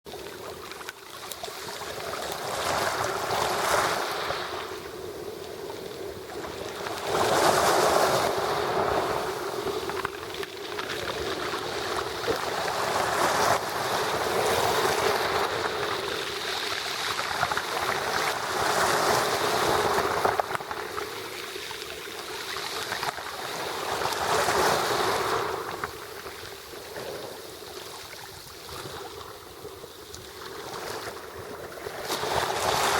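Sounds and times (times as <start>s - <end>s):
sea waves breaking on shore: 0.1s - 32.9s.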